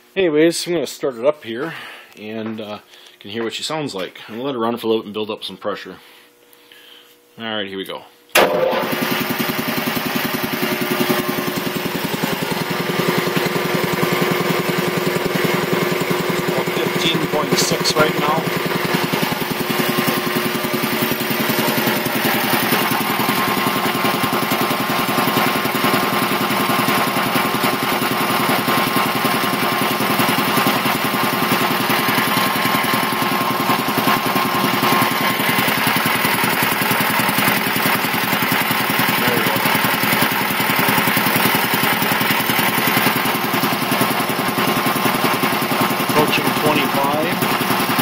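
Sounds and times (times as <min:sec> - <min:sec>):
air compressor pulsing: 0:08.3 - 0:48.0.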